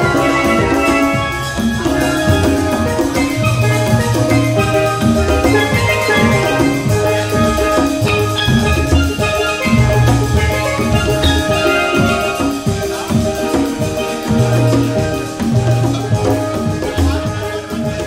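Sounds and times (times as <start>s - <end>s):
sustained melodic notes: 0.0s - 17.9s
bass line: 0.0s - 18.0s
drums: 0.0s - 18.0s.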